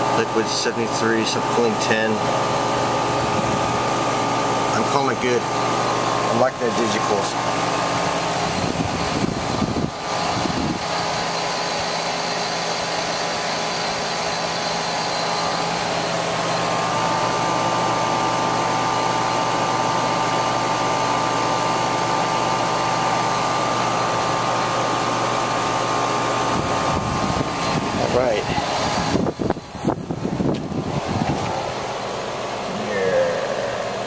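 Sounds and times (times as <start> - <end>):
air conditioner unit humming: 0.0 - 34.0.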